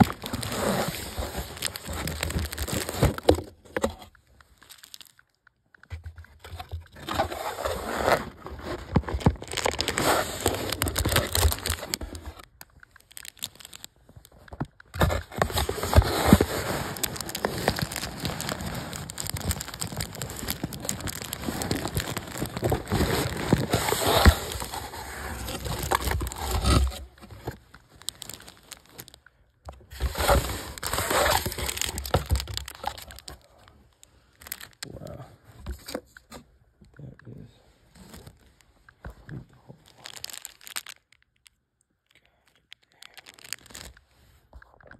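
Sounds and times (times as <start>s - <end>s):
paper and plastic crinkling: 0.0s - 35.0s, 37.9s - 41.6s, 42.3s - 44.9s.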